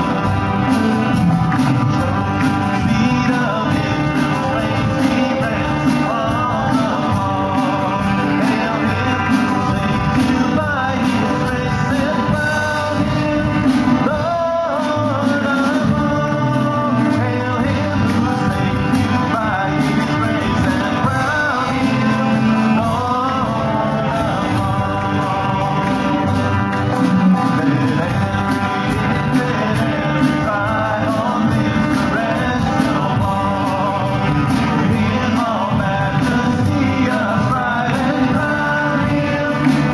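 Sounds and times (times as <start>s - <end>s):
women singing: 0.0s - 26.9s, 27.6s - 39.9s
worship band playing: 0.0s - 39.9s.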